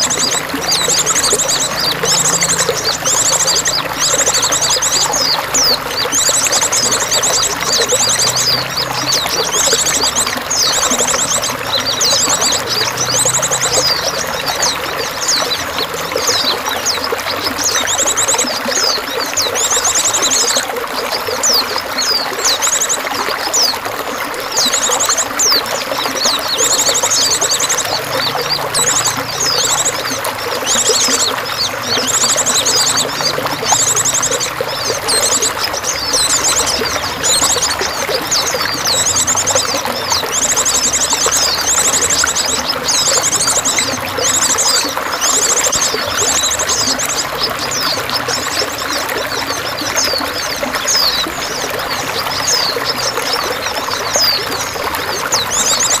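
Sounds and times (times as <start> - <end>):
pouring water rushing: 0.0 - 56.0
songbirds trilling and whistling: 0.0 - 56.0.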